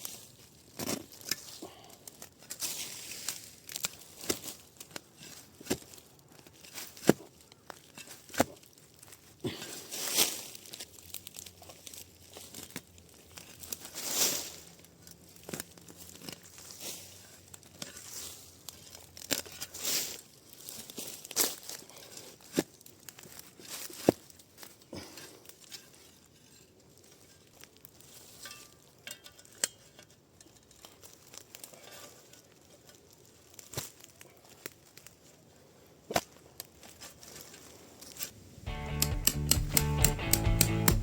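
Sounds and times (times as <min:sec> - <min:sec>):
rustling dry leaves and soil: 0:00.0 - 0:41.0.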